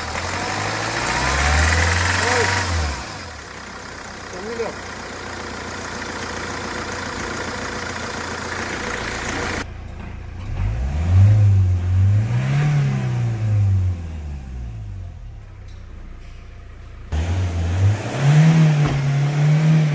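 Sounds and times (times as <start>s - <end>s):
diesel engine revving: 0.0s - 9.7s, 10.4s - 15.6s, 16.3s - 19.9s.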